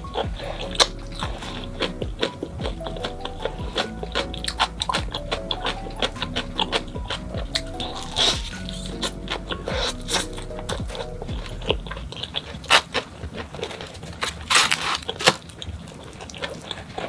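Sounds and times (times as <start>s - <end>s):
chewing pizza crust: 0.0s - 17.0s
crust tearing with crackles: 0.0s - 17.0s.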